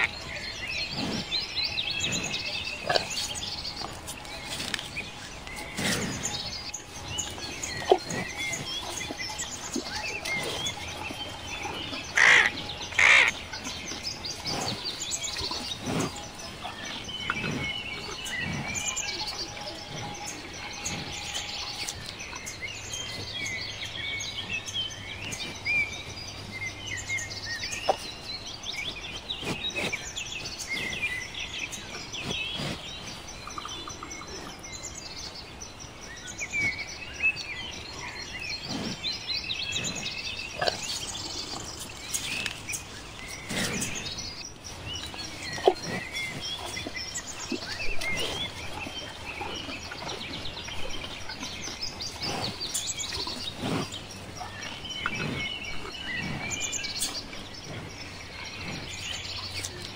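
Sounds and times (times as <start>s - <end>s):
loud bird calls: 0.0s - 59.9s
small birds chirping and trilling: 0.0s - 59.9s.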